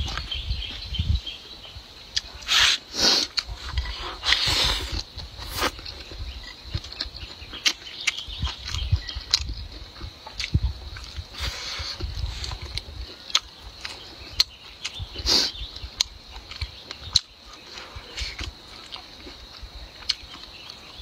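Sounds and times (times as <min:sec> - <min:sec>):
chewing food: 0:03.2 - 0:21.0.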